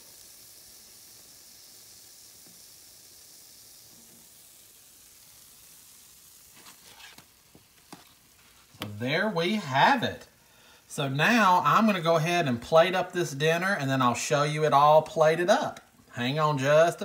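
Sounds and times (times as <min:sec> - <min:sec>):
grease sizzling in a pan: 0:00.0 - 0:17.0.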